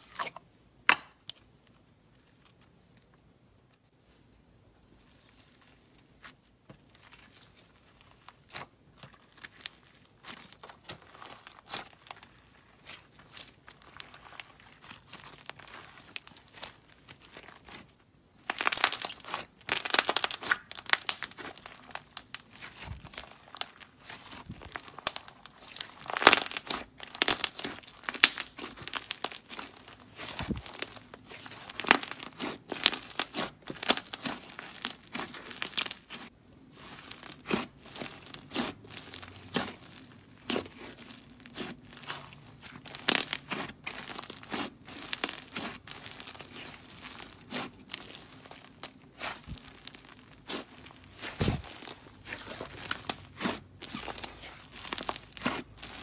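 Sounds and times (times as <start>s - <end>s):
clay slime crackling and tearing: 5.0s - 56.0s.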